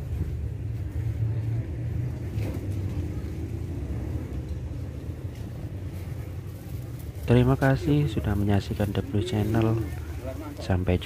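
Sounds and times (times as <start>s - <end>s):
faint voices: 0.0s - 11.0s
steady low rumble: 0.0s - 11.0s.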